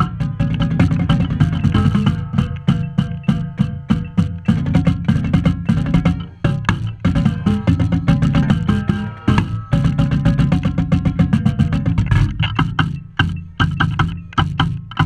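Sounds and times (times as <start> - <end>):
marching band playing: 0.0 - 12.8
marching tenor drums: 0.0 - 15.0.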